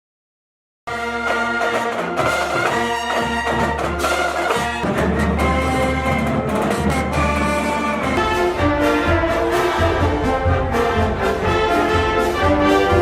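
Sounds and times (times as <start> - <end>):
marching band brass playing: 0.9 - 13.0.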